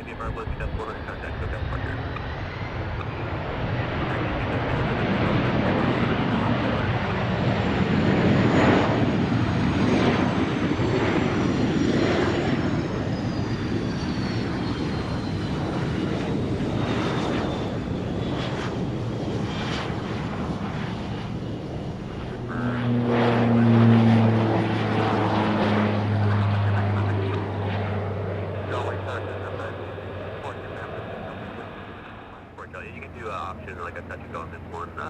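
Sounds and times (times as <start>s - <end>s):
aircraft engine roar: 0.0s - 35.0s.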